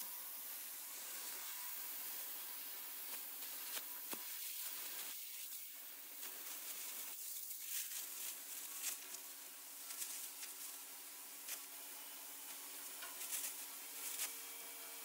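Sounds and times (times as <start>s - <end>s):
plasma cutter cutting steel: 0.0s - 15.0s.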